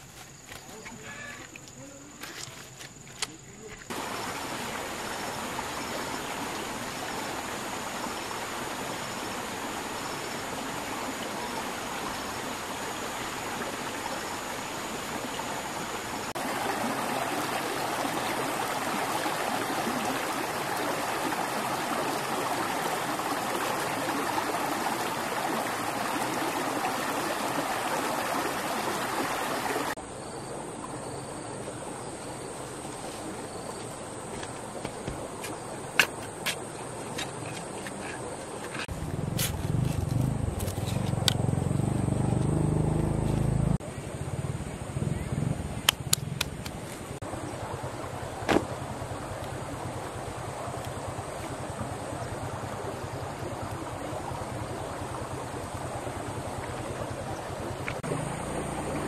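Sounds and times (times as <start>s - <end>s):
faint insect chirping: 0.0s - 59.0s
flowing water rushing: 3.8s - 44.2s, 45.7s - 59.0s.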